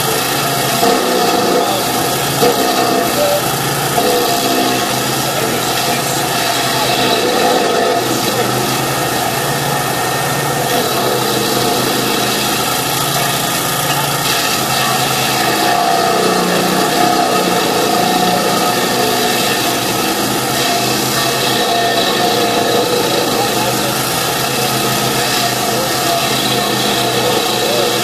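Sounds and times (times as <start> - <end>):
loader engine running: 0.0 - 28.0.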